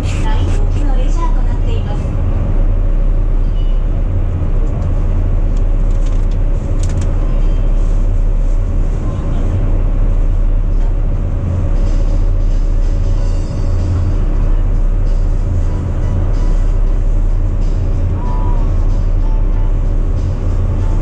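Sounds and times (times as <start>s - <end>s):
boat engine drone: 0.0s - 21.0s.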